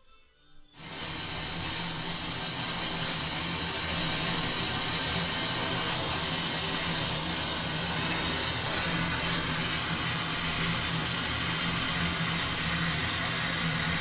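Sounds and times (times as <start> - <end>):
machine humming and hissing: 0.8 - 14.0.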